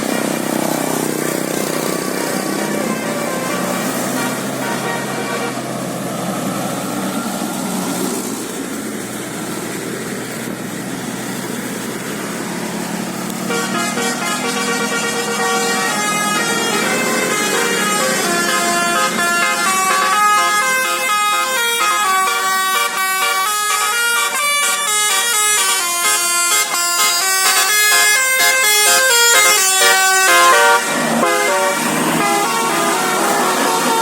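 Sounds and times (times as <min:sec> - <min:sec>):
bus horn playing a tune: 0:00.0 - 0:06.6, 0:13.0 - 0:34.0.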